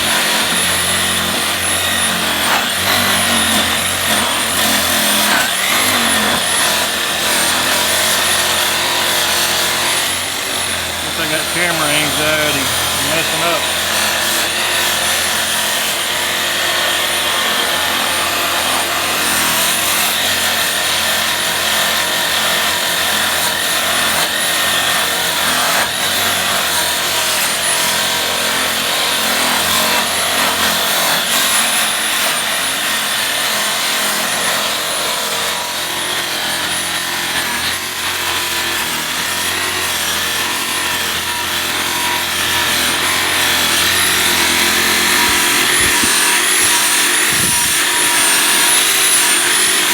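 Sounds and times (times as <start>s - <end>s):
polishing machine whining: 0.0s - 49.9s.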